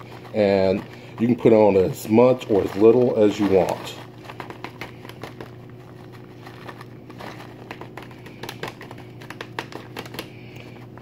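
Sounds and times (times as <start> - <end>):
cheese shreds pattering: 0.0 - 11.0
plastic bag crinkling: 0.0 - 11.0
steady low hum: 0.0 - 11.0.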